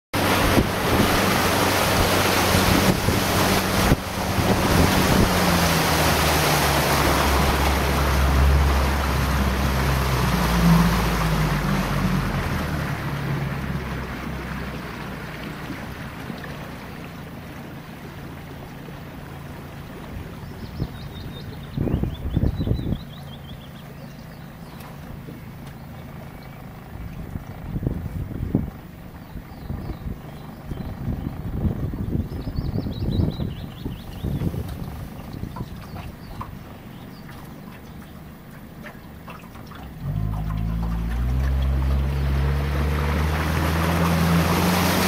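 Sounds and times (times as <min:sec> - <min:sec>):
wind and water rushing: 0:00.1 - 0:45.0
motorboat engine: 0:00.2 - 0:45.0.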